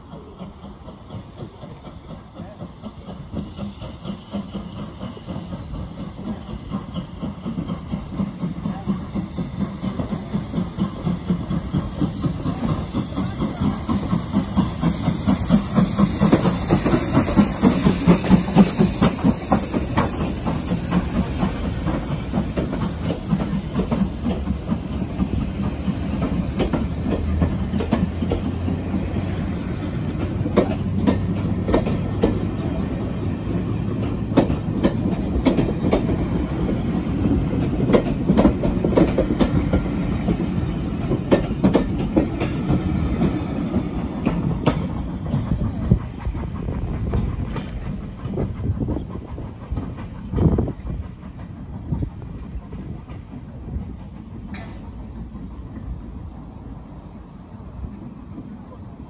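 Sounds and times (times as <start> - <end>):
passenger train passing at speed: 0.0 - 59.0
wheels clicking over rail joints: 0.1 - 56.4.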